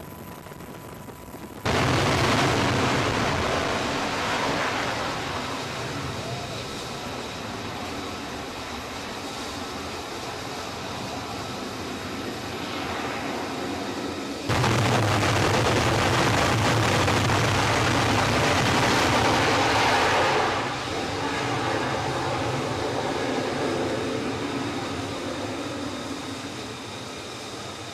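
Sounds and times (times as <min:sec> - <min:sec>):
jet engine roaring: 0:00.0 - 0:27.9.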